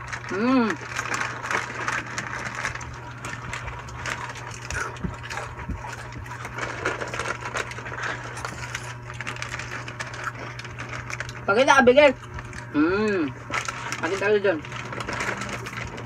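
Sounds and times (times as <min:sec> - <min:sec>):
chips crunching: 0:00.0 - 0:16.0
plastic chip bags crinkling: 0:00.0 - 0:16.0
steady low hum: 0:00.0 - 0:16.0.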